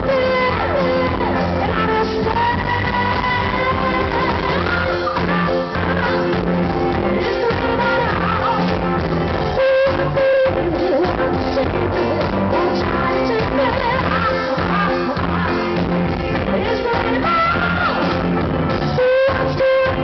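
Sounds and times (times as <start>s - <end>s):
pop-rock band playing: 0.0s - 20.0s.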